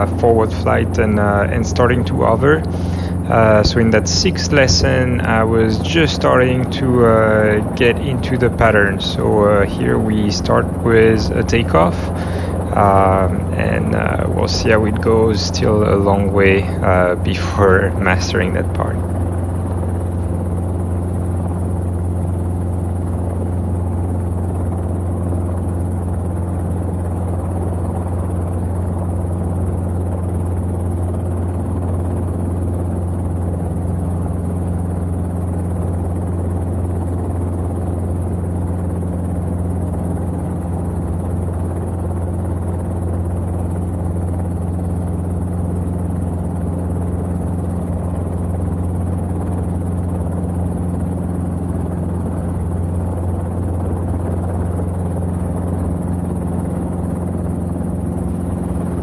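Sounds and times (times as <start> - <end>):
helicopter engine and rotors droning: 0.0 - 59.0.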